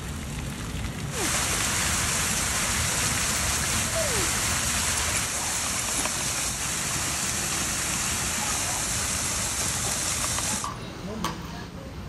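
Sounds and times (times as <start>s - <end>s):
waterfall splashing into pond: 0.0s - 10.7s.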